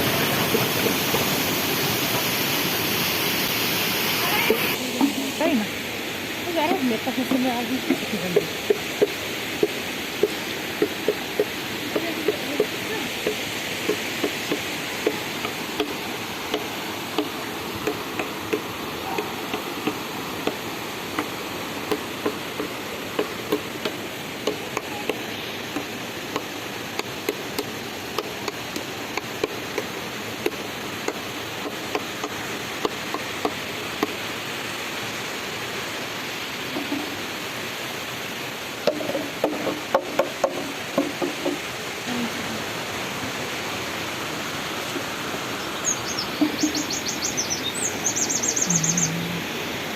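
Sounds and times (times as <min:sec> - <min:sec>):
running water: 0:00.0 - 0:49.9.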